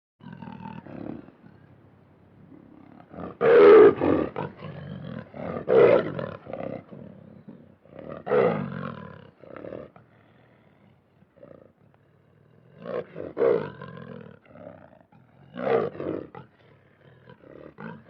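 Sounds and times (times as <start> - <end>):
lion roaring: 2.4 - 10.8, 11.4 - 18.0.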